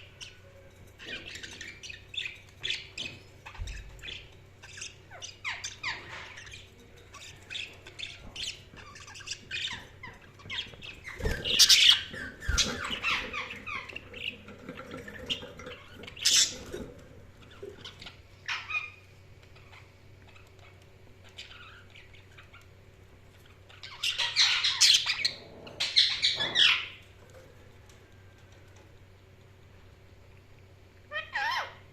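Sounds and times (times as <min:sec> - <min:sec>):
budgies chirping and squawking: 0:00.0 - 0:27.4, 0:31.1 - 0:31.8.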